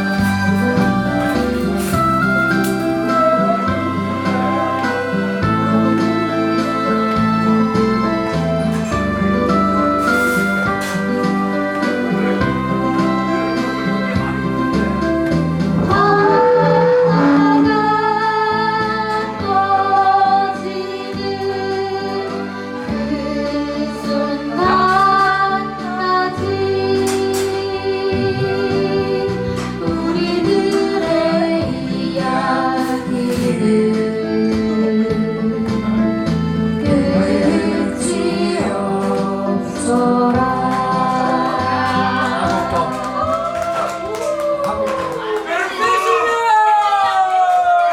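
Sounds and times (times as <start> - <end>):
woman singing: 0.0 - 15.0, 15.8 - 43.4
live instrumental accompaniment: 0.0 - 47.9.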